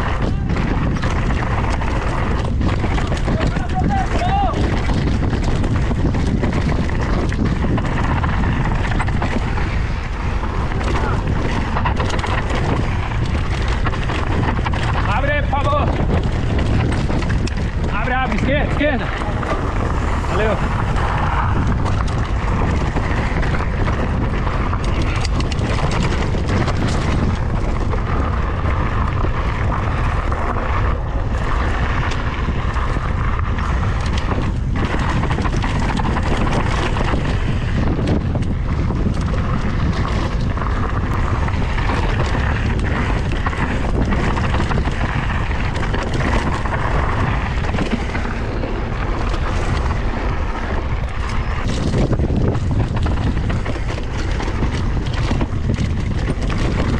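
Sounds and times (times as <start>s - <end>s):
bike rattling over bumps: 0.0s - 56.9s
bike tyres rumbling on dirt: 0.0s - 56.9s
wind on microphone: 0.0s - 56.9s.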